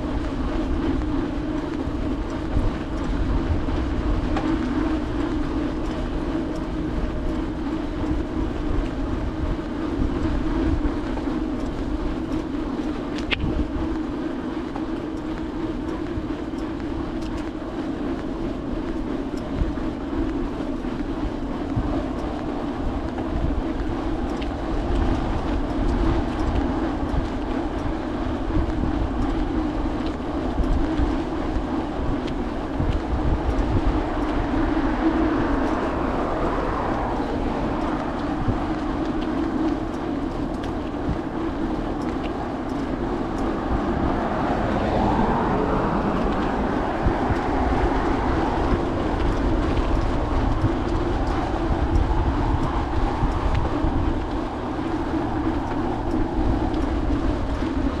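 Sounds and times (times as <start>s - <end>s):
bicycle tyres humming on asphalt: 0.0s - 58.0s
wind buffeting microphone: 0.0s - 58.0s.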